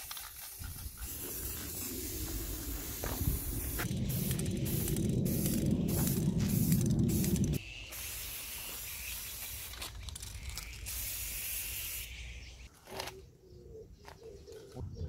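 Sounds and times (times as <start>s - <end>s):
spray can hissing: 0.1s - 12.6s.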